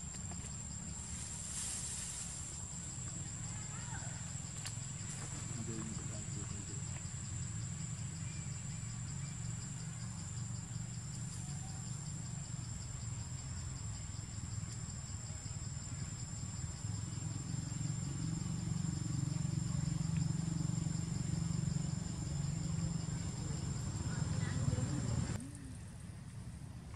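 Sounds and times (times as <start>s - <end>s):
pulsing insect call: 0.0s - 26.1s
insects chirring: 0.0s - 26.3s.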